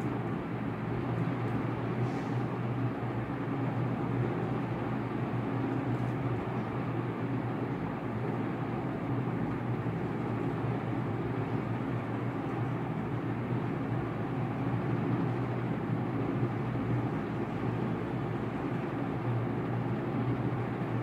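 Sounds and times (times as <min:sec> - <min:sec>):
low hum and rumble: 0:00.0 - 0:21.0.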